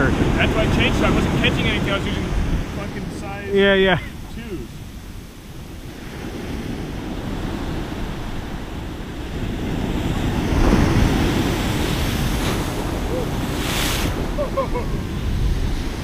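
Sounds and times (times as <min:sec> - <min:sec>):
ocean surf breaking on beach: 0:00.0 - 0:16.0
wind rumbling on microphone: 0:00.0 - 0:16.0.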